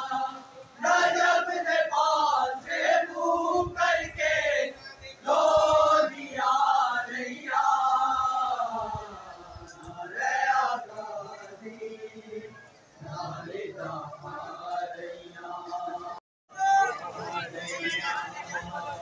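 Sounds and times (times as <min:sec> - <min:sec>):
men chanting a lament: 0:00.0 - 0:19.0.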